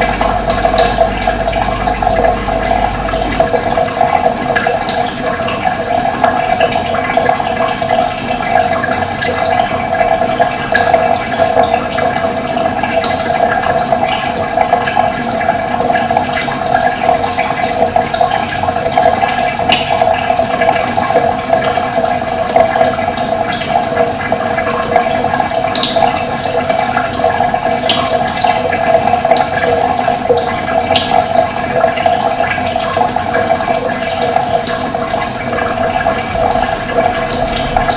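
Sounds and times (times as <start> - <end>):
running water rushing: 0.0 - 37.9.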